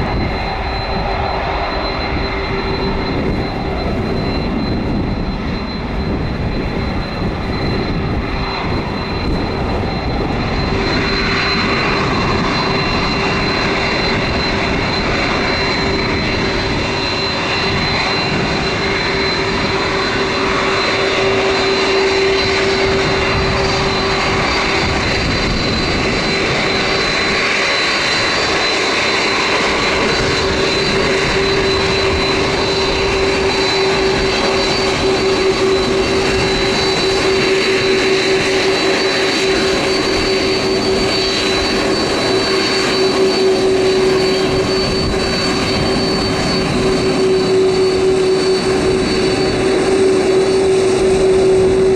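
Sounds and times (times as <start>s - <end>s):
jet engines roaring: 0.0s - 51.9s.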